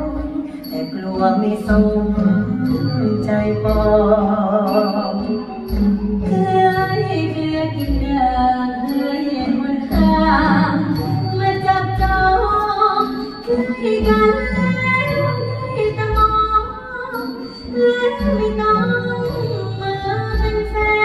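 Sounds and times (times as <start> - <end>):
person singing with vibrato: 0.0 - 21.0.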